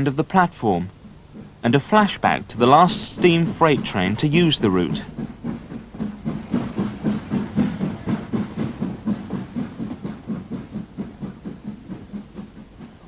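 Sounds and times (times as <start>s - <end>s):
steam hissing: 0.0s - 13.0s
steam locomotive exhaust beats: 0.0s - 13.0s.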